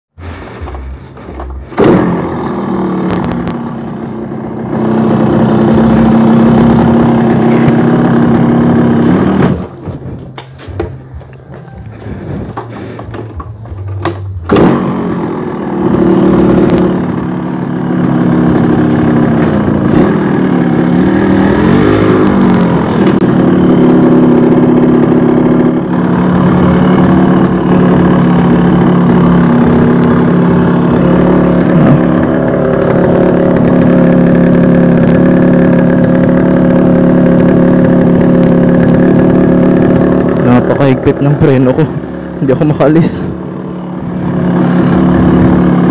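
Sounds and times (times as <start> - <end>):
two-stroke motorcycle engine: 0.2 - 45.9.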